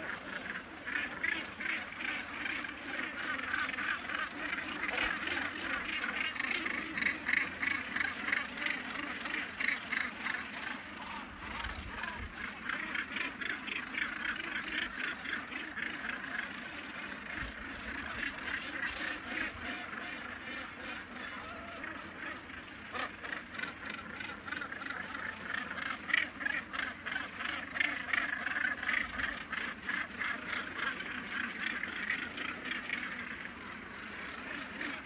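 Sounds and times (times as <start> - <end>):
seabirds giving harsh calls: 0.0 - 35.0.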